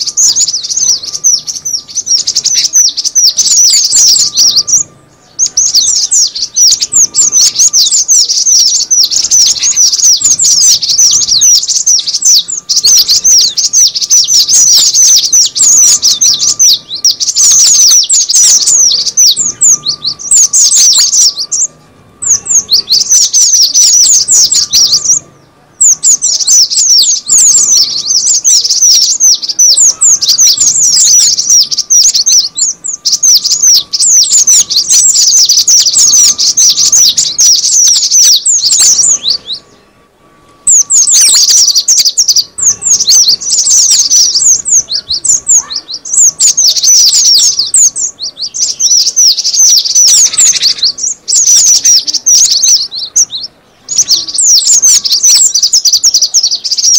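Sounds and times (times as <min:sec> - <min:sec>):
bird chattering high chirps: 0:00.0 - 0:56.9.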